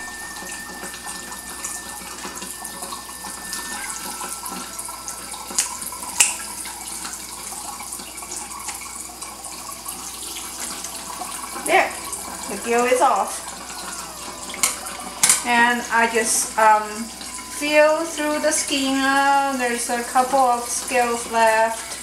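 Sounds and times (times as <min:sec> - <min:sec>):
tap water spraying into sink: 0:00.0 - 0:22.0.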